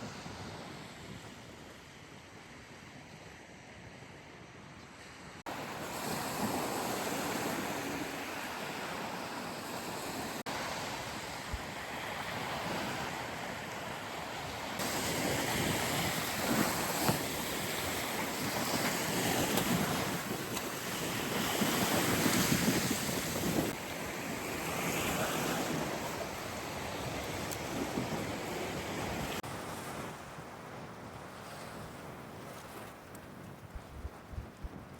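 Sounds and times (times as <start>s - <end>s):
sea waves washing onto shore: 5.4s - 34.3s
wind buffeting microphone: 5.6s - 34.9s.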